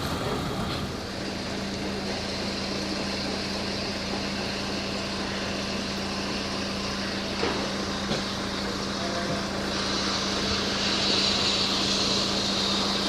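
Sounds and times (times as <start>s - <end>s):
hiss: 0.0s - 13.0s
locomotive hum: 0.0s - 13.0s.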